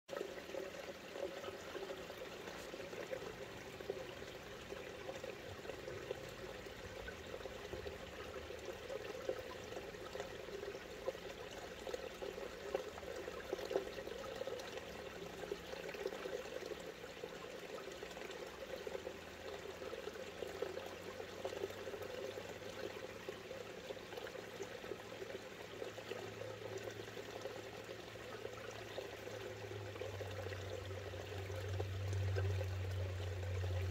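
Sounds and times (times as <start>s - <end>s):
creek water rushing: 0.1s - 33.9s.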